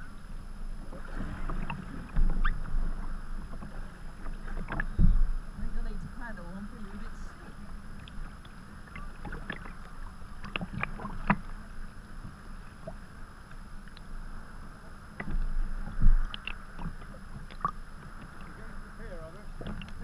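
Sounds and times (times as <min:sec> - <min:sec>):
paddle splashing: 0:00.0 - 0:20.0
steady water wash: 0:00.0 - 0:20.0
water slapping against hull: 0:00.0 - 0:20.0.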